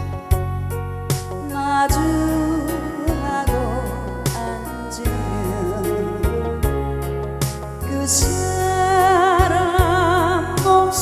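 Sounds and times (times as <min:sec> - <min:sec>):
person singing: 0:01.4 - 0:07.1, 0:07.8 - 0:11.0.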